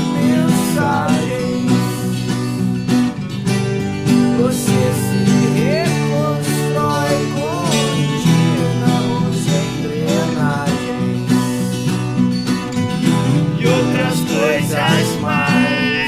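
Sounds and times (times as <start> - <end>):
acoustic guitar: 0.0 - 16.0
country folk music: 0.0 - 16.0.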